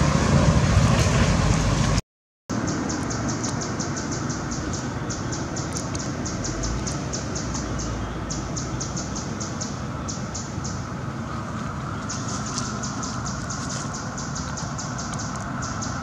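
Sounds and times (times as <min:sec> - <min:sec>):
steady noisy hum: 0:02.5 - 0:16.0.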